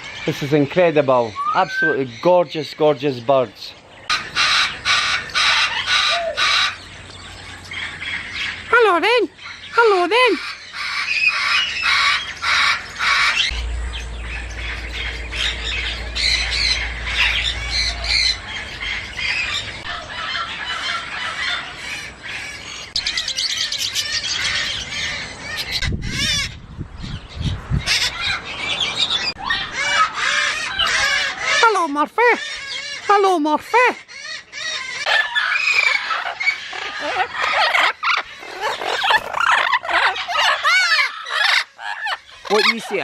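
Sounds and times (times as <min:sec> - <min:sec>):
parrots squawking and chattering: 0:00.0 - 0:02.8, 0:03.7 - 0:43.0.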